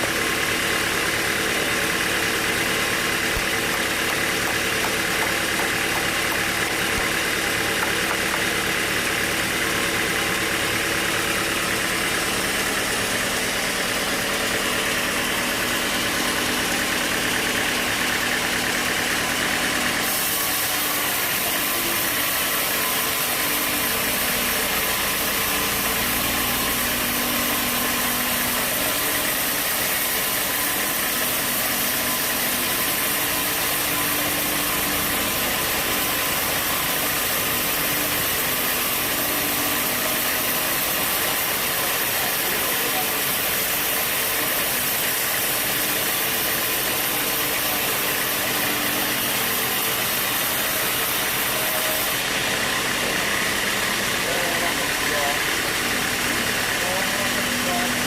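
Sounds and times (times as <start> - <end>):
sawmill machinery engine running: 0.0 - 58.0.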